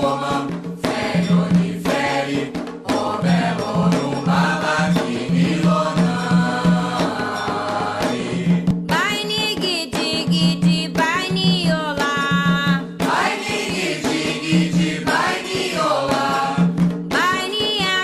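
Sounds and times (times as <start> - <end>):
hand drums and percussion: 0.0 - 18.0
voices singing call and response: 0.0 - 18.0.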